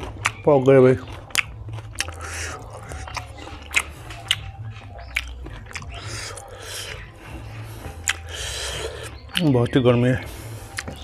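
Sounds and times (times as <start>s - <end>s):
wet mouth clicks: 0.0s - 7.2s, 7.9s - 9.6s, 10.7s - 11.0s
close-up chewing and smacking: 0.0s - 11.0s.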